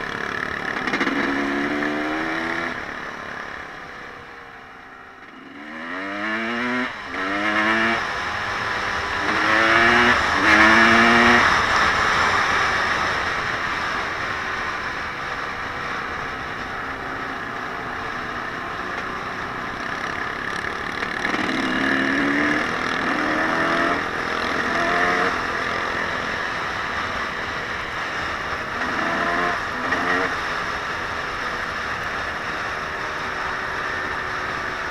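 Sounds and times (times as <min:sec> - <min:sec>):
vehicle engine accelerating through gears: 0:00.0 - 0:34.9.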